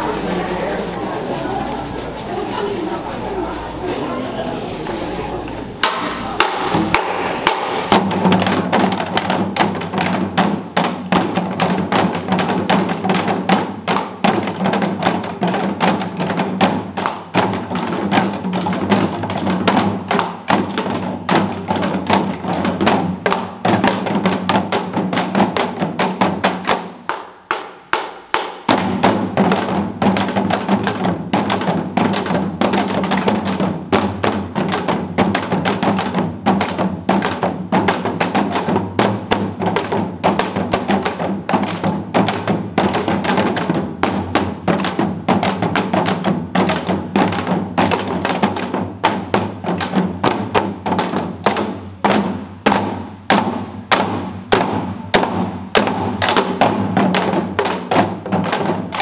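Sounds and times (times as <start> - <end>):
hourglass drums in fast rhythm: 5.8 - 27.0, 28.5 - 59.0.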